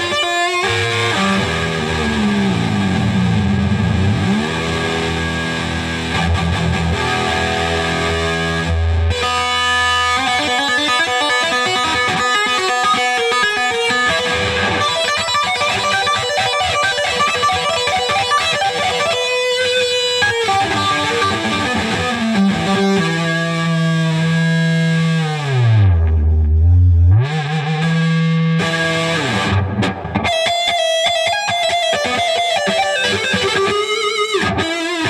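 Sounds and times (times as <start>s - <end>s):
electric guitar lead runs: 0.0s - 35.0s.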